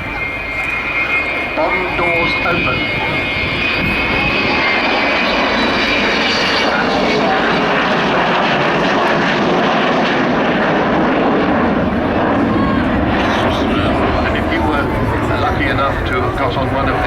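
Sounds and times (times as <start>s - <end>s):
loud jet noise: 0.0s - 17.0s.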